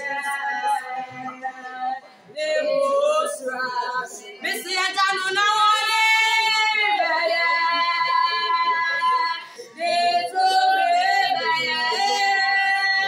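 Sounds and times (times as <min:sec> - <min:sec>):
person singing worship song: 0:00.0 - 0:13.0.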